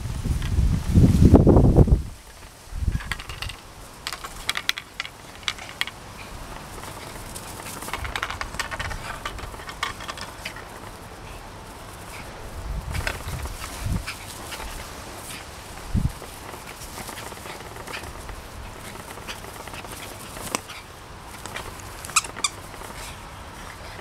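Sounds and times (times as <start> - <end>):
dogs running on grass: 0.2 - 24.0.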